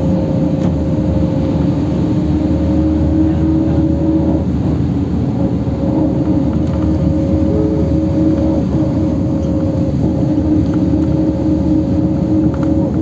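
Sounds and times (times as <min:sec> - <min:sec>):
bus engine and tyres rumbling: 0:00.0 - 0:13.0
constant whining tone: 0:00.0 - 0:13.0.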